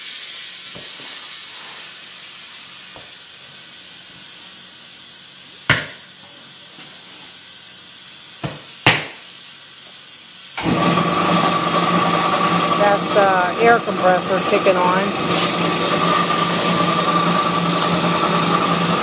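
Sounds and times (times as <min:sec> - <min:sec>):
compressed air hissing: 0:00.0 - 0:10.6, 0:12.8 - 0:19.0.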